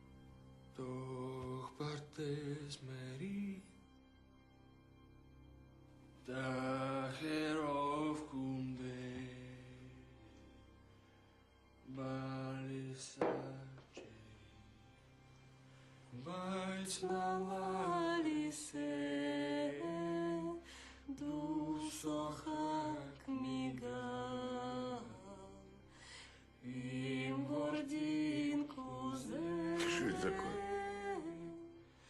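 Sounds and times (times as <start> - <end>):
slow chant-like singing: 0.0 - 5.3, 6.1 - 32.0.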